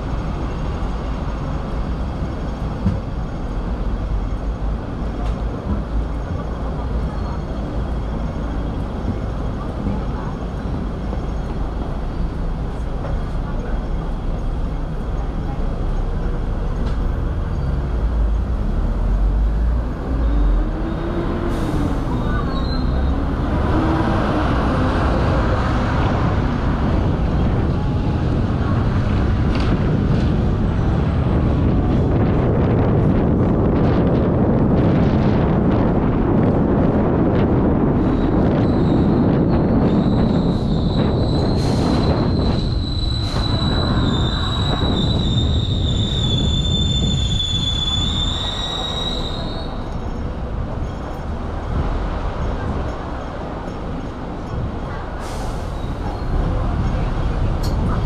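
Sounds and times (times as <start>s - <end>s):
tram wheels and motor rumbling: 0.0s - 58.0s
wind buffeting microphone: 0.0s - 58.0s.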